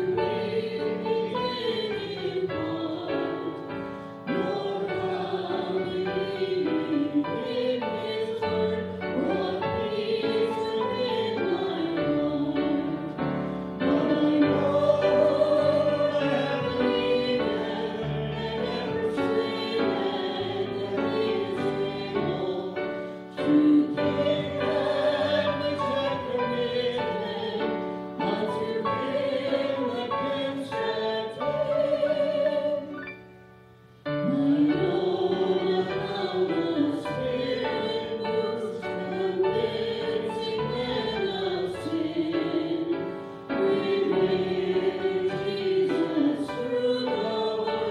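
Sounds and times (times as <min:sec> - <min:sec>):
hymn sung with instruments: 0:00.0 - 0:47.9.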